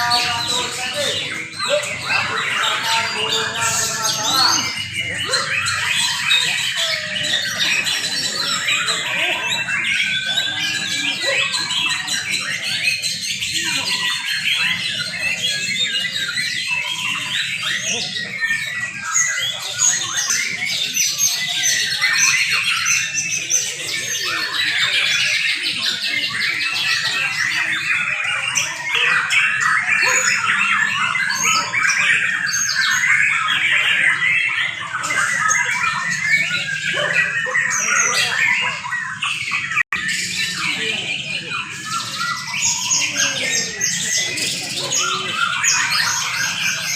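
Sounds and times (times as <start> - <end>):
birds singing in chorus: 0.0 - 46.9.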